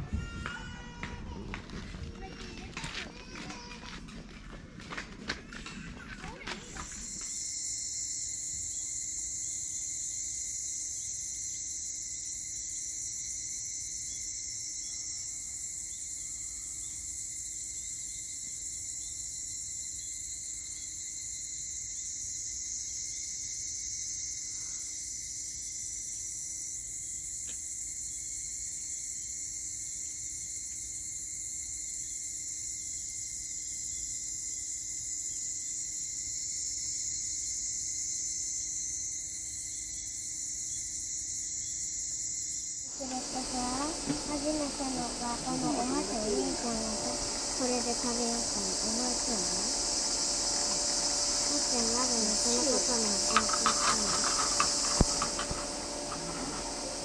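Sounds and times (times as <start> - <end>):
high-pitched insect chorus: 5.5 - 57.0.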